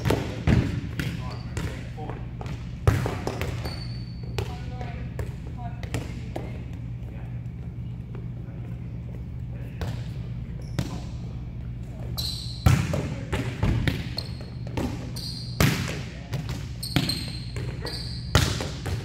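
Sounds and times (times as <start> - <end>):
sneaker squeaks: 0.0 - 7.0, 7.6 - 19.0
balls bouncing off court: 0.0 - 11.2, 11.8 - 19.0
steady background hum: 0.0 - 19.0.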